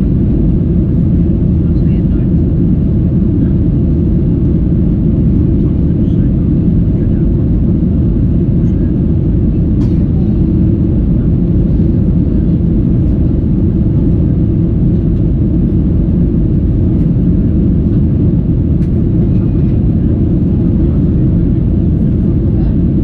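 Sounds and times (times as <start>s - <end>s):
jet engines at high thrust: 0.0s - 23.0s.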